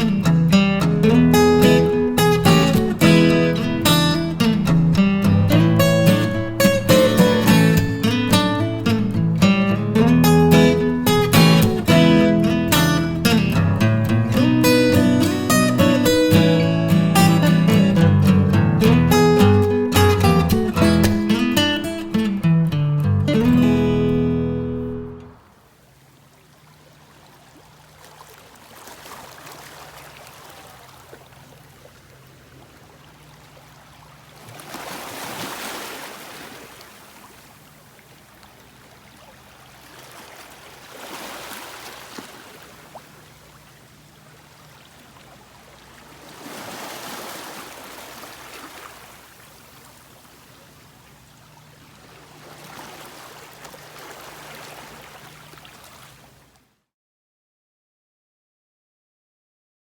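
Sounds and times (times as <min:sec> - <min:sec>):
ocean waves breaking on shore: 0:00.0 - 0:22.6, 0:25.3 - 0:56.7.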